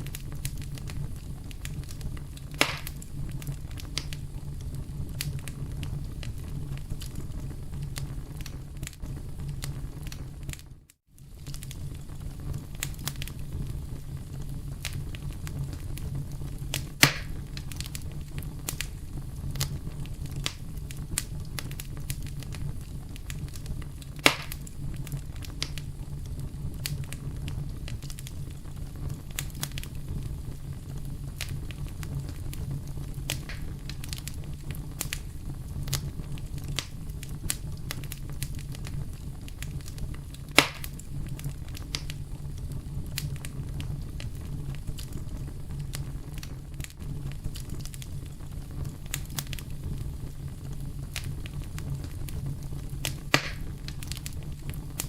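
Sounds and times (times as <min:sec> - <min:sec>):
campfire rumbling: 0:00.0 - 0:55.0
loud fire pops: 0:00.0 - 0:55.0
wood crackling: 0:00.0 - 0:55.0.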